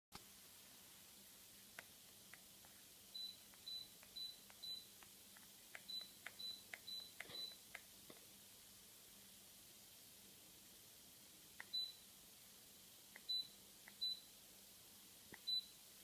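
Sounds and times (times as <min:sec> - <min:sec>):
faint steady hum: 0:00.2 - 0:16.0.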